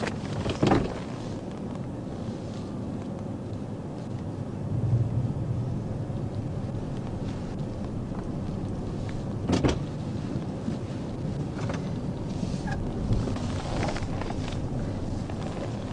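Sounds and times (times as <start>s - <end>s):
vehicle rumble: 0.0s - 15.9s.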